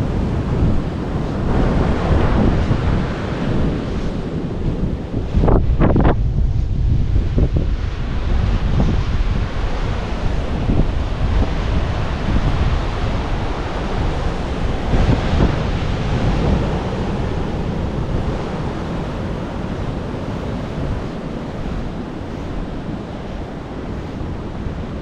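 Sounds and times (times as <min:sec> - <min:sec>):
surf breaking on rocky shore: 0:00.0 - 0:25.0
wind rumbling on microphone: 0:00.0 - 0:25.0.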